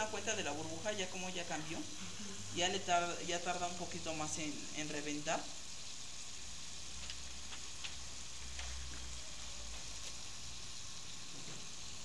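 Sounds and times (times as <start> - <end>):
syrup boiling in a saucepan: 0.0 - 12.0.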